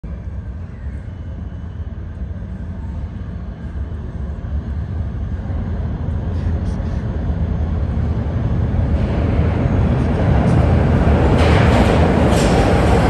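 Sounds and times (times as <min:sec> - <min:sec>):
subway train approaching: 0:00.0 - 0:13.0.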